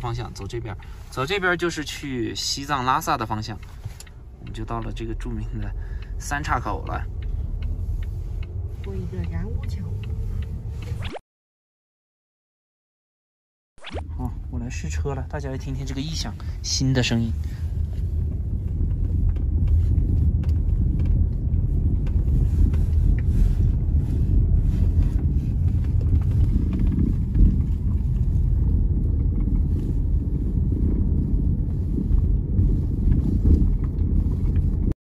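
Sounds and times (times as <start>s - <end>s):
car cabin road noise: 0.0s - 11.1s, 14.0s - 35.0s.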